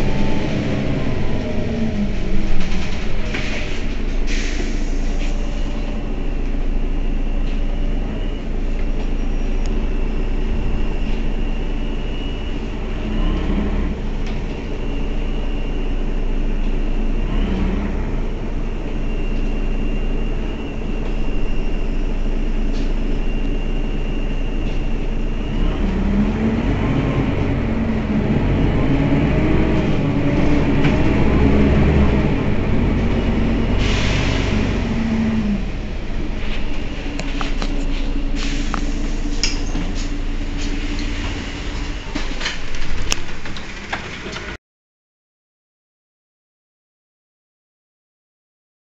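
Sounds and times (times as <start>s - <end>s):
bus engine idling: 0.0s - 44.6s.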